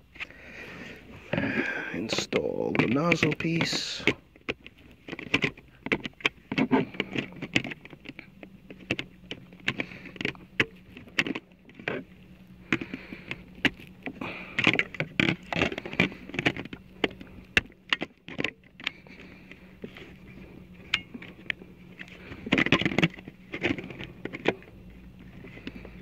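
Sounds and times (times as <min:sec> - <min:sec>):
plastic parts clicking and rattling: 0:00.1 - 0:26.0.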